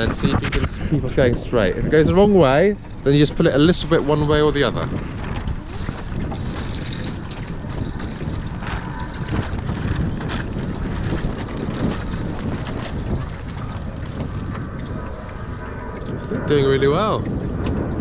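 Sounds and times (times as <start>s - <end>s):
wind buffeting microphone: 0.0s - 18.0s
water washing along hull: 0.8s - 18.0s.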